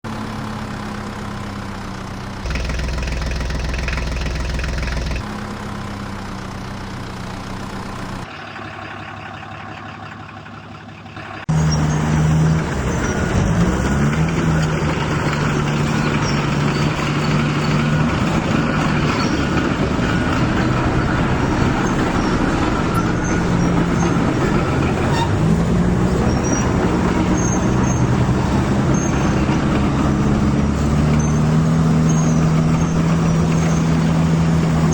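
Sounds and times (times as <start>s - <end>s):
heavy vehicle engine: 0.1s - 34.9s.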